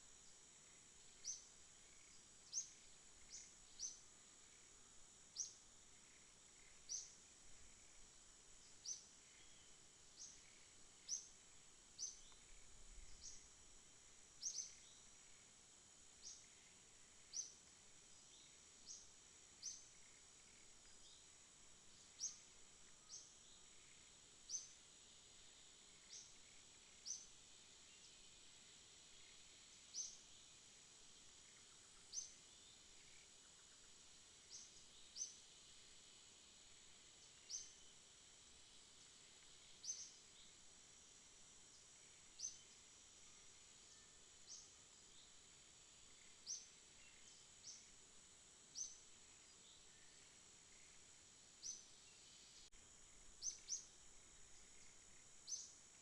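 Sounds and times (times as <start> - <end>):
insect chirps: 0.0 - 56.0
insect drone: 0.0 - 56.0.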